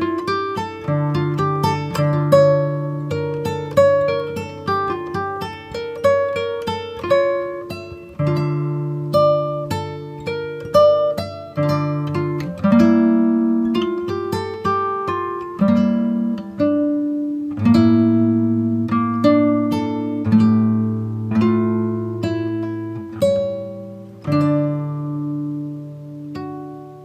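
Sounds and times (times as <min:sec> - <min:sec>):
acoustic guitar picking melody: 0:00.0 - 0:27.0.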